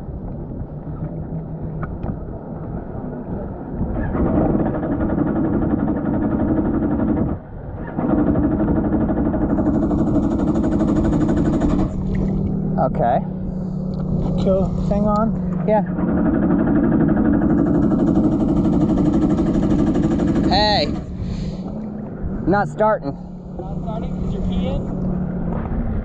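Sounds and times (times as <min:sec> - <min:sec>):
jet ski engine running: 0:00.0 - 0:26.0.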